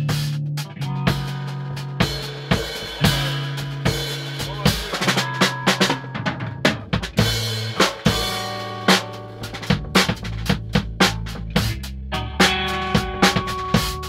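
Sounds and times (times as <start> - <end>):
drum kit beat: 0.0 - 14.0
electric bass notes: 0.0 - 14.0
electric guitar: 0.6 - 10.2, 11.6 - 14.0.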